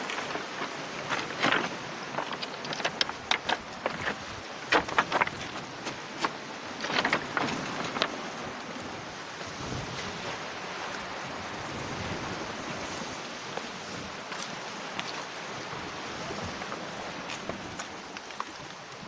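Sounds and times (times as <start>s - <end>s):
sea and wind rushing: 0.0s - 19.0s.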